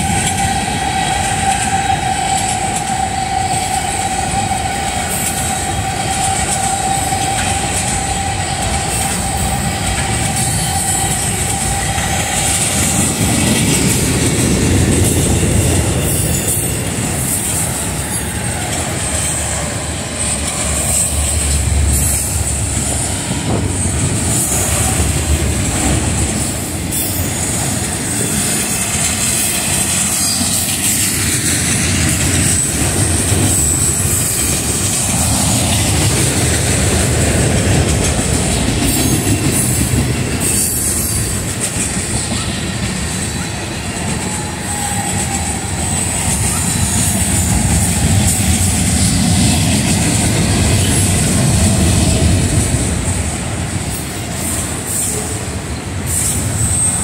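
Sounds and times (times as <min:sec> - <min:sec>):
steel wheels rumbling on rail: 0:00.0 - 0:57.0
wheels clattering over rail joints: 0:00.0 - 0:57.0.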